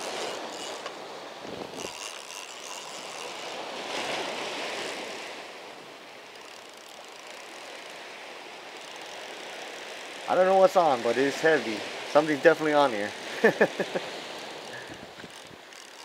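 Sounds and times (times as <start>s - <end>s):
surf breaking along shore: 0.0s - 16.0s.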